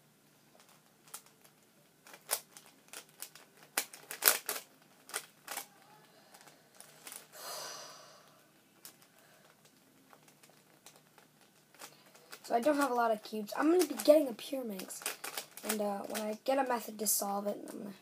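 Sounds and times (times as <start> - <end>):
puzzle cube plastic clicks: 0.6 - 7.3, 8.8 - 16.7.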